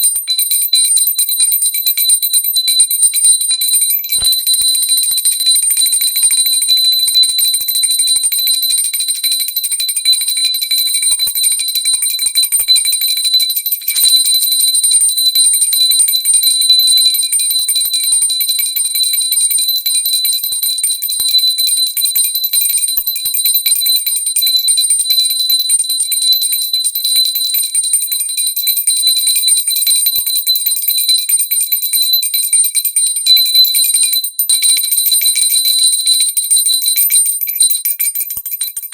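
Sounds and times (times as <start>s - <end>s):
small bell ringing rapidly: 0.0s - 38.9s.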